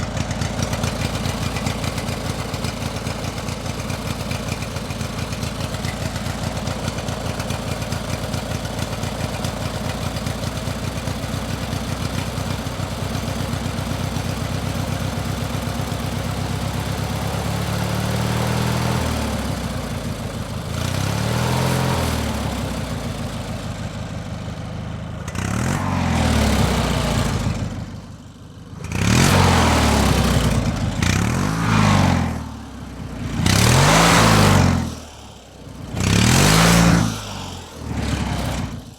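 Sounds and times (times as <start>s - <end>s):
engine idling and revving: 0.0s - 38.9s.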